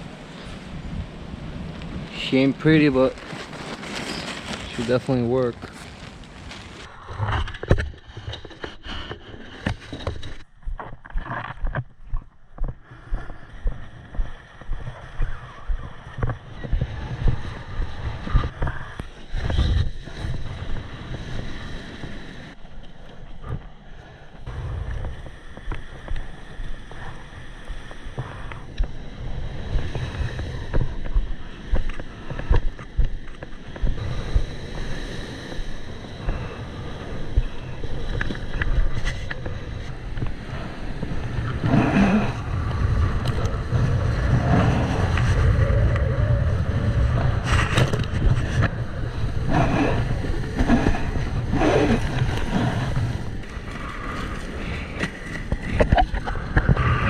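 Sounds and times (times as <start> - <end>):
wind buffeting microphone: 0.0 - 10.8, 12.0 - 22.6, 23.3 - 57.0.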